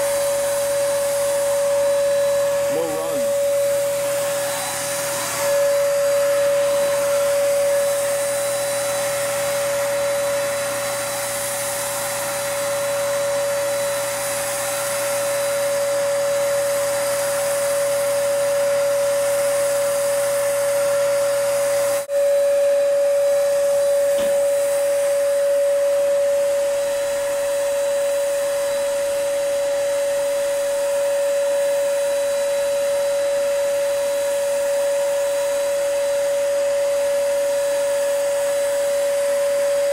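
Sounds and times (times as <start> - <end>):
paint sprayer turbine whining: 0.0 - 39.9.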